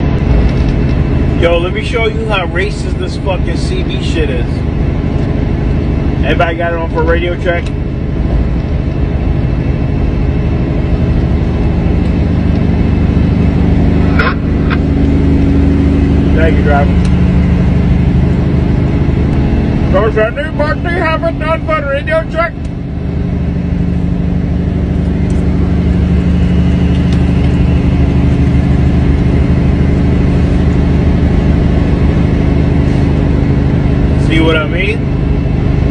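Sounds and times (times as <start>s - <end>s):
diesel truck engine drone: 0.0s - 35.9s.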